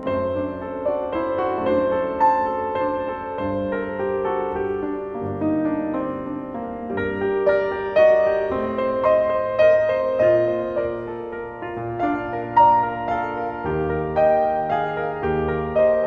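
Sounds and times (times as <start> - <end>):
slow gentle piano piece: 0.0 - 16.0.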